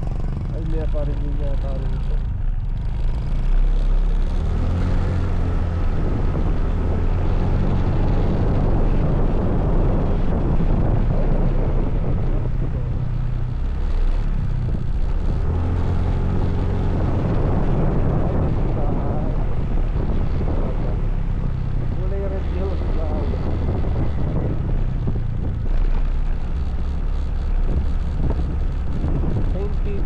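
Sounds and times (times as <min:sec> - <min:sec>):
motorcycle engine running: 0:00.0 - 0:30.0
wind on microphone: 0:00.0 - 0:30.0.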